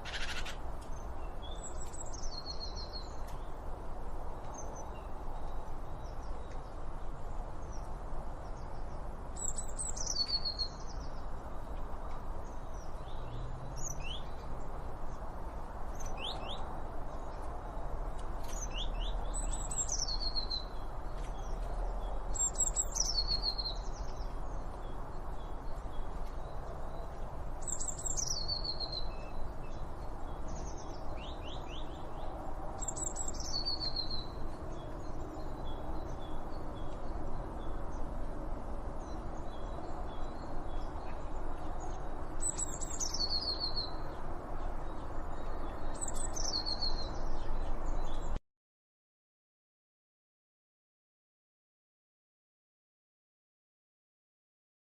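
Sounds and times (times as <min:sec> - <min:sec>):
songbirds singing: 0:00.0 - 0:48.4.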